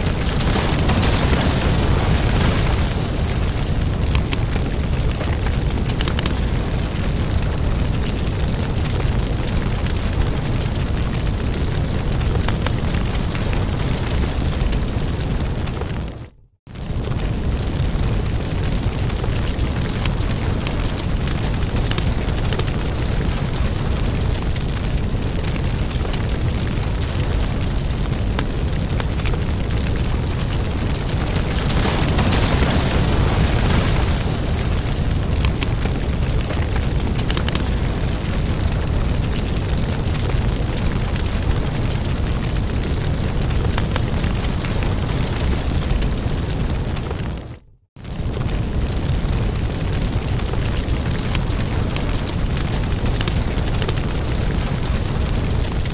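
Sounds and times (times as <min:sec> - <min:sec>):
fire burning with low rumble: 0:00.0 - 0:55.9
fire crackling and popping: 0:00.0 - 0:55.9.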